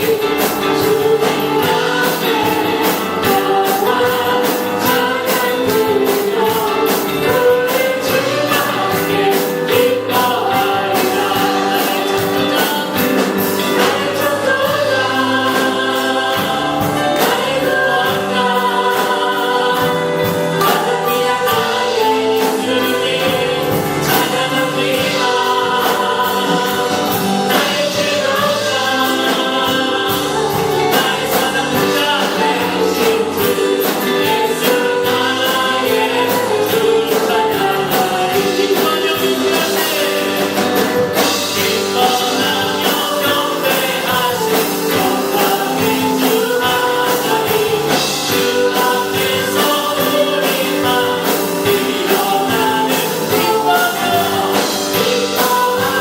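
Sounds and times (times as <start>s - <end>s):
band playing: 0.0s - 56.0s
group singing worship song: 0.0s - 56.0s
steady drum beat: 0.0s - 56.0s.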